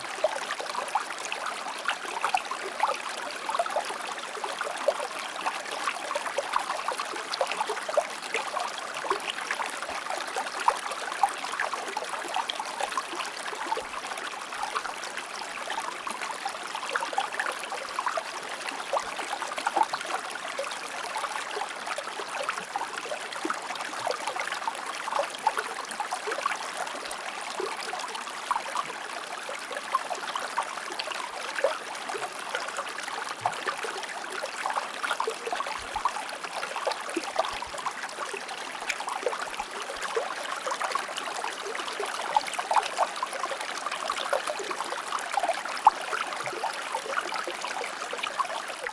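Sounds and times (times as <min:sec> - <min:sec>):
stream water flowing over stones: 0:00.0 - 0:48.9.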